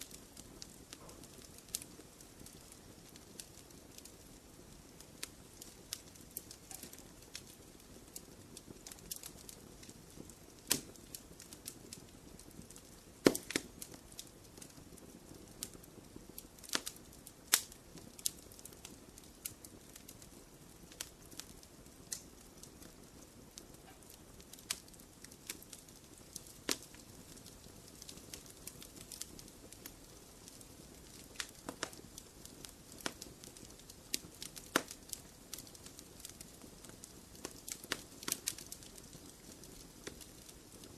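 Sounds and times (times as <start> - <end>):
fire hissing: 0.0 - 22.8, 23.6 - 40.9
wood fire crackling and popping: 0.0 - 40.9.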